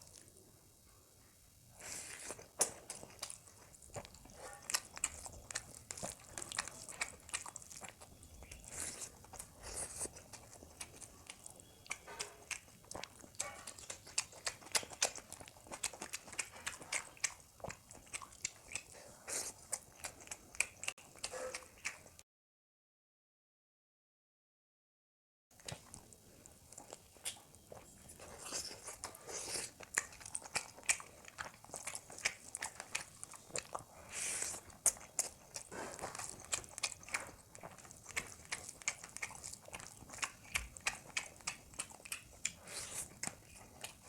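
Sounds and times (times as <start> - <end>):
person chewing chicken: 1.7 - 22.2, 25.6 - 44.0.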